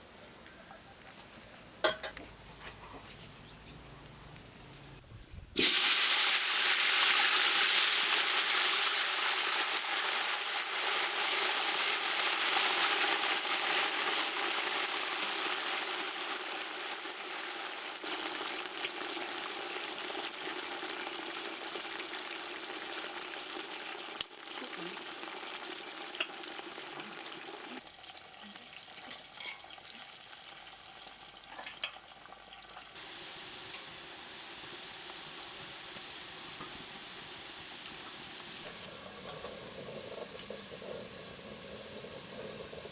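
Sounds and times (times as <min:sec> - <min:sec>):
potato slices sizzling in oil: 0:05.6 - 0:42.9.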